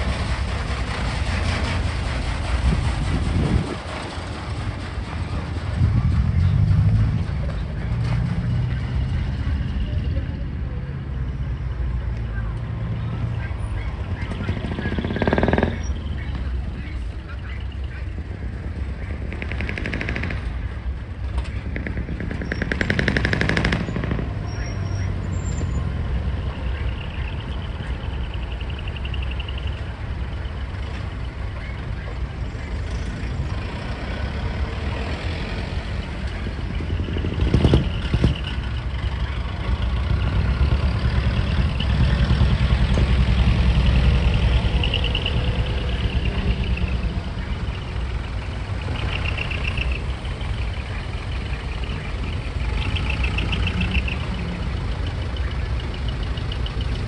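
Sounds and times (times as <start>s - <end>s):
diesel truck engines idling: 0.0s - 57.0s.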